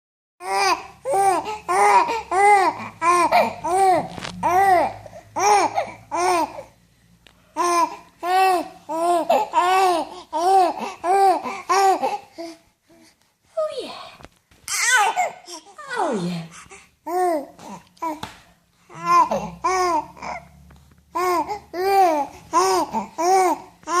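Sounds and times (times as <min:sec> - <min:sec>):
baby cooing: 0:00.4 - 0:06.8, 0:07.6 - 0:12.6, 0:14.1 - 0:18.2, 0:18.9 - 0:24.0.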